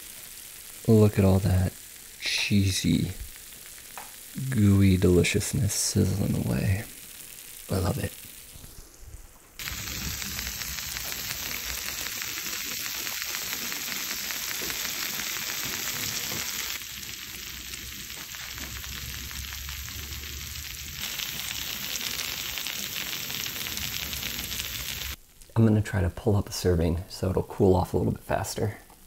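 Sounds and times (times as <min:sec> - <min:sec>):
cheese and sauce sizzling: 0:00.0 - 0:25.2.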